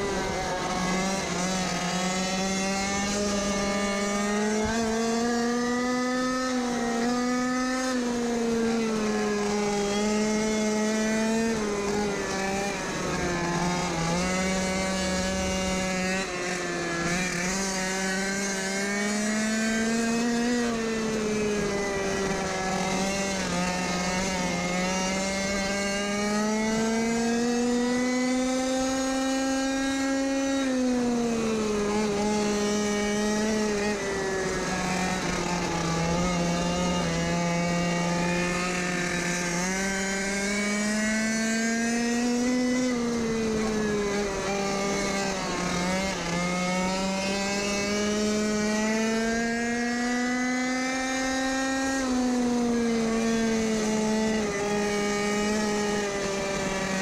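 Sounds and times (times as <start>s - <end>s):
small petrol engine revving: 0.0s - 57.0s.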